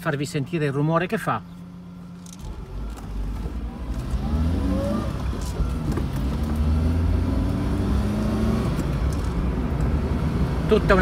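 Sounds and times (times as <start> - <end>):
car engine accelerating: 1.7 - 11.0.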